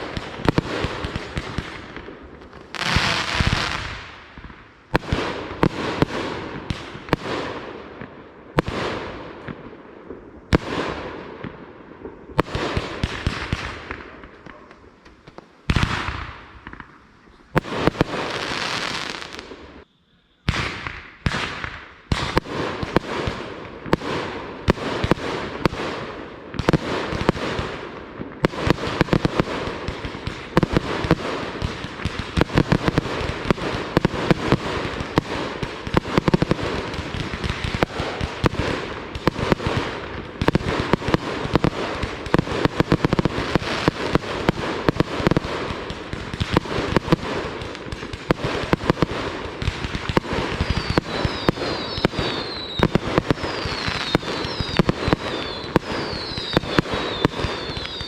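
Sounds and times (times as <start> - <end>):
fireworks bangs and crackles: 0.0 - 19.8, 20.4 - 58.0.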